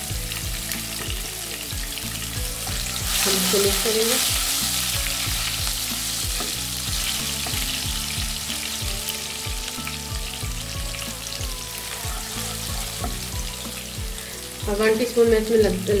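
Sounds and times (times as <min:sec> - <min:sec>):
background music with steady beat: 0:00.0 - 0:16.0
onion sizzling in hot oil: 0:00.0 - 0:16.0.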